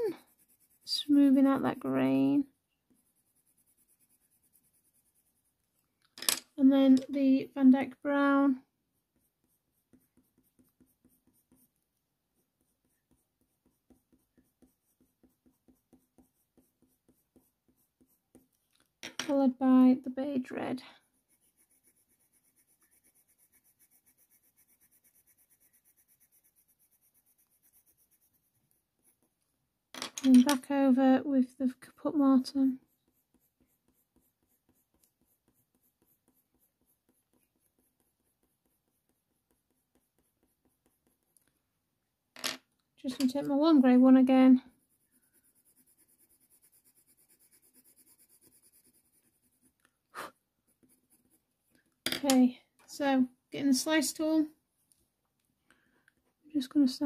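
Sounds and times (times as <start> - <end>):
pencil scratching on paper: 0.0 - 5.8, 6.7 - 18.7, 19.3 - 29.5, 30.6 - 41.5, 43.1 - 51.6.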